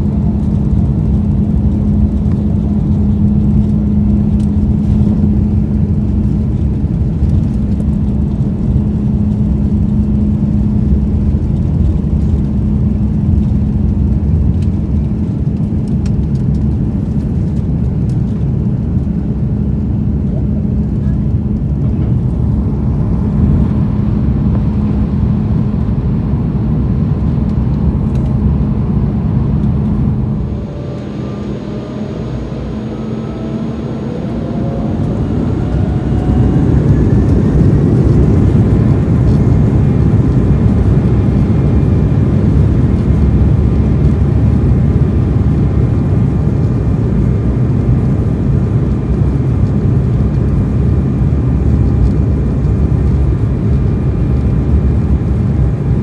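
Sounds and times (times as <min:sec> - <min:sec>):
airliner engines spooling up: 0:00.0 - 0:56.0.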